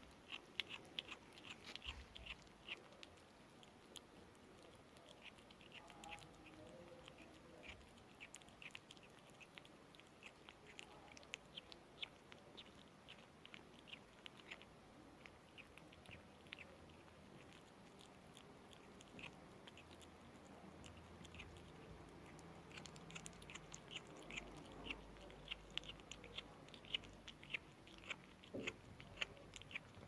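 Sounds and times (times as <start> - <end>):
kitten chewing food: 0.0 - 30.0.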